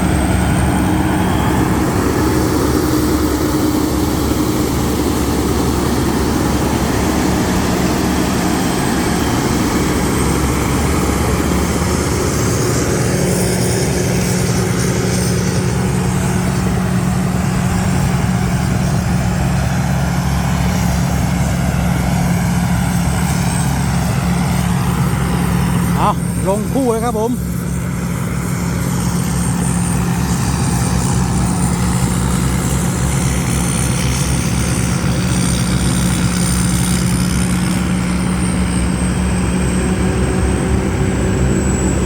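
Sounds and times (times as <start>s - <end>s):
harvester engine droning: 0.0s - 42.0s.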